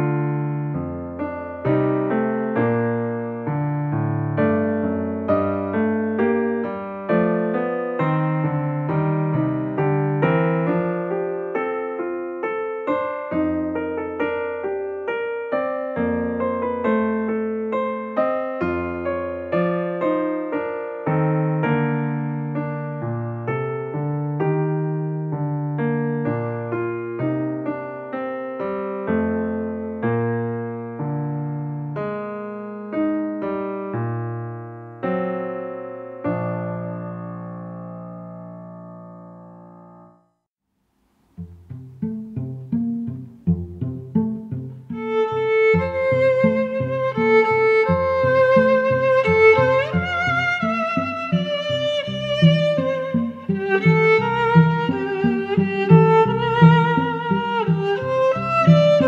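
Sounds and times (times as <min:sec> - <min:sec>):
keyboard piano music: 0:00.0 - 0:40.5, 0:41.2 - 0:59.0.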